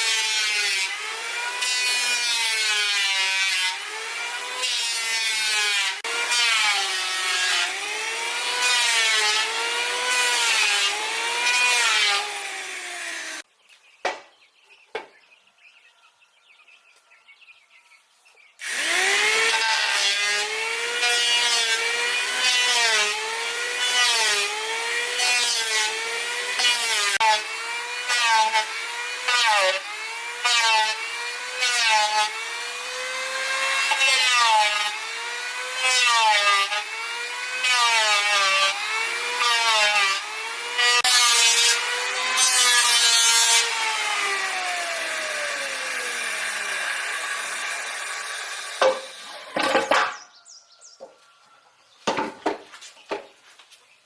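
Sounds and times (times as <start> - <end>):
hand saw cutting wood: 0.0 - 13.5, 18.6 - 50.3.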